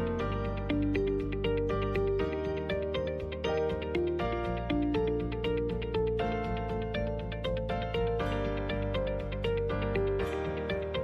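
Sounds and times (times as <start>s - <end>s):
low bass: 0.0s - 11.0s
quick melody of repeated notes: 0.0s - 11.0s.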